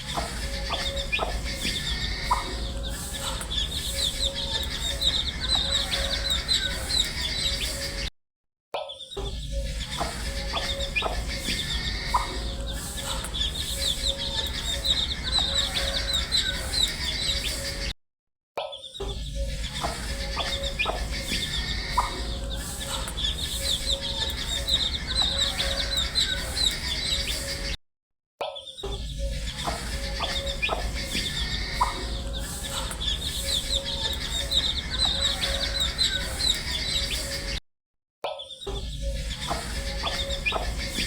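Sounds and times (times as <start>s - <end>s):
baby chicks peeping: 0.0s - 8.1s, 9.5s - 17.9s, 19.4s - 27.7s, 28.9s - 37.6s, 38.6s - 41.0s.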